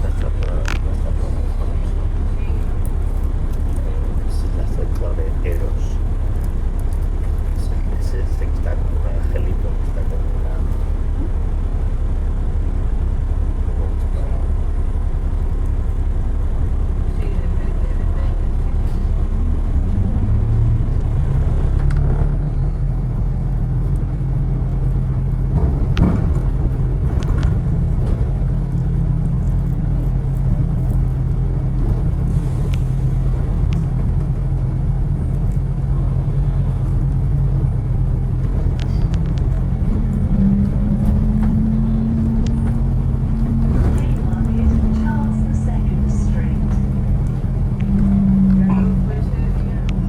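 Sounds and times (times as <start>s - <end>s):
higher hum: 0.0s - 22.3s, 31.3s - 50.0s
vehicle engine rumbling hum: 0.0s - 50.0s.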